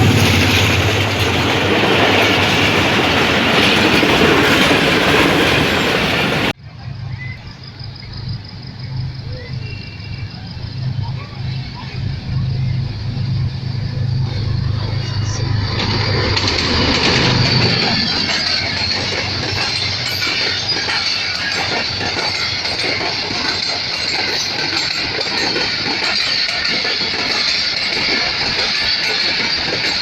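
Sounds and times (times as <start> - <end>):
train wheels clattering over rails: 0.0 - 6.6, 11.4 - 30.0.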